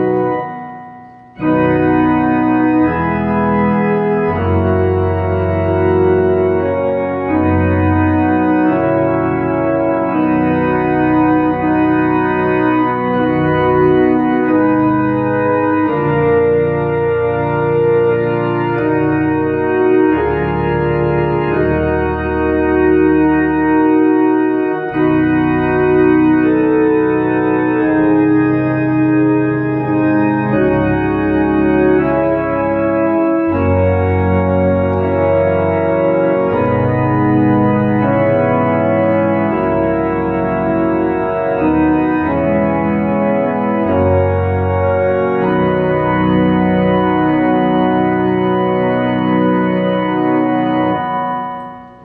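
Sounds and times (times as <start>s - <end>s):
electronic organ playing hymn chords: 0.0s - 52.0s.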